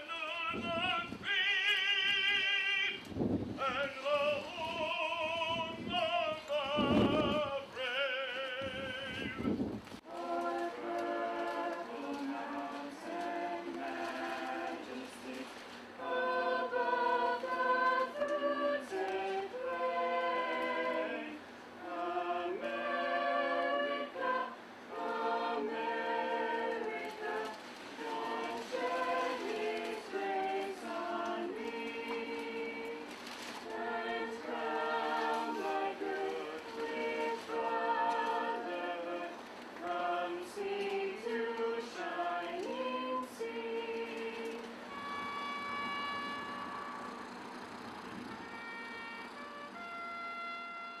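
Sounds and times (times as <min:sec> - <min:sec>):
choir singing a cappella: 0:00.0 - 0:49.9.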